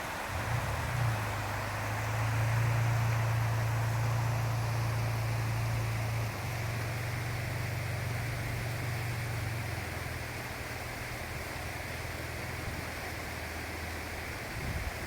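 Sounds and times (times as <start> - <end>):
low steady rumble: 0.0 - 15.0
river water rushing: 0.0 - 15.0.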